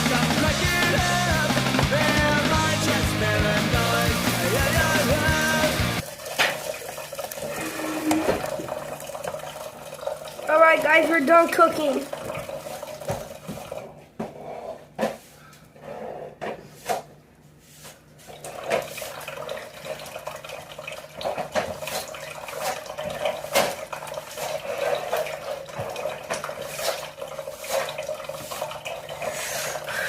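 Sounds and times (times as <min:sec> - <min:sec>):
water running: 0:00.0 - 0:14.0, 0:18.3 - 0:30.0.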